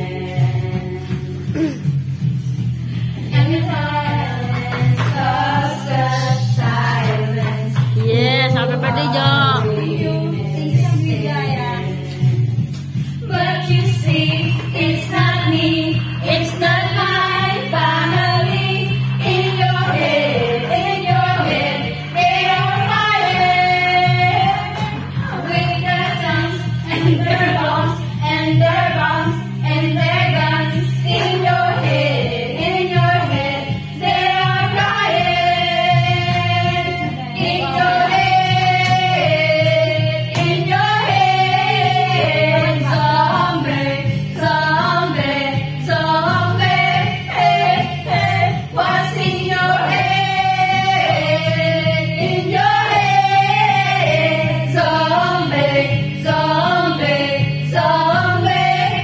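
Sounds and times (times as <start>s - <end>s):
karaoke backing track: 0.0s - 59.0s
women singing slow melody: 0.0s - 59.0s.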